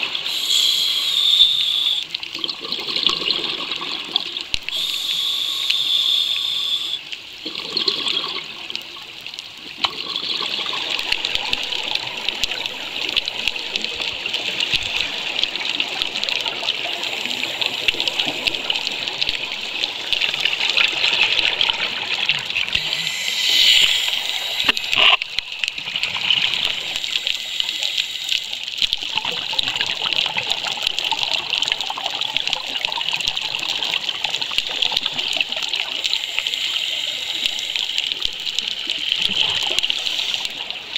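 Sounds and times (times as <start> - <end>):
underwater rush of water: 0.0 - 40.9
regulator bubbles: 6.5 - 8.6, 9.8 - 40.9.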